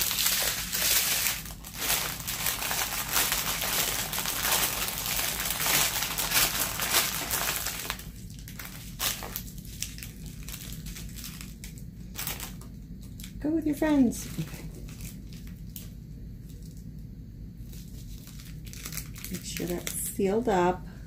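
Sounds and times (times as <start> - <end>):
plastic bags crinkling: 0.0 - 16.9, 17.6 - 20.7.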